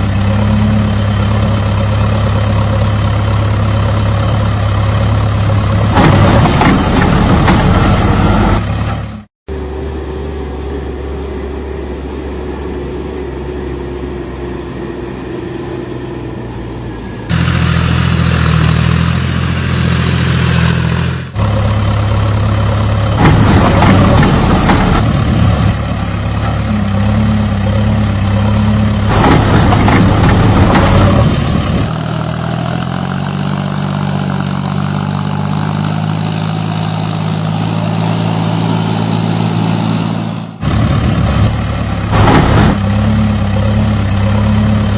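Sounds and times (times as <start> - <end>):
heavy vehicle engine humming: 0.0 - 44.9.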